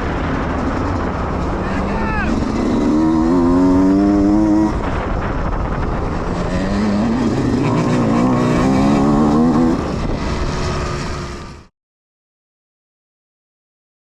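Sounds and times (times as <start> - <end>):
dirt bike engines revving past: 0.0 - 11.7.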